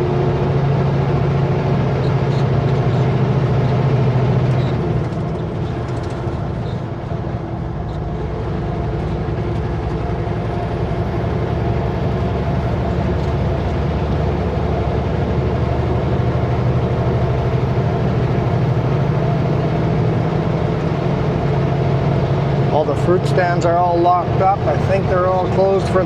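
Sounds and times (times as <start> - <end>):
road noise: 0.0 - 26.0
truck diesel engine drone: 0.0 - 26.0.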